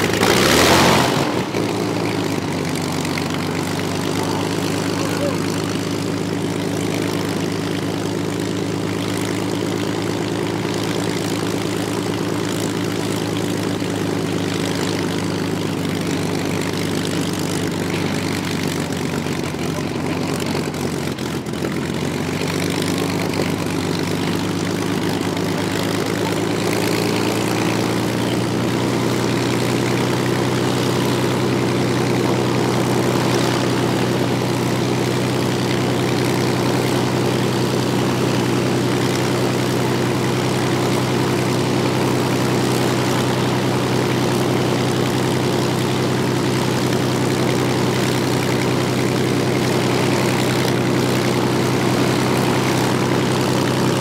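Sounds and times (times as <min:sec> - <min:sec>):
propeller aircraft engine running: 0:00.0 - 0:54.0.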